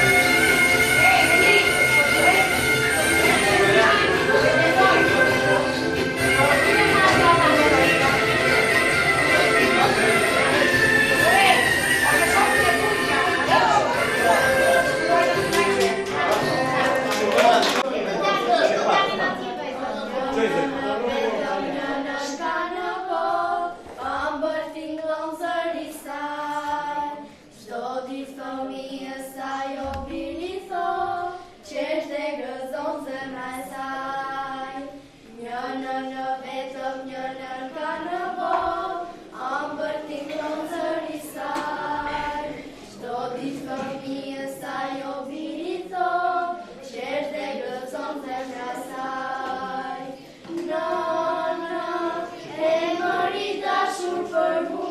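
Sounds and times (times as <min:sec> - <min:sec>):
girls choir singing unaccompanied: 0:00.0 - 0:54.9.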